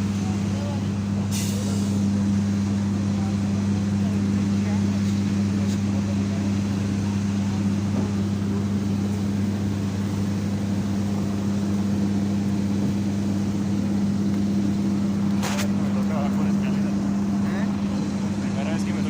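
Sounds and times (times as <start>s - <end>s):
low machine drone: 0.0s - 19.0s.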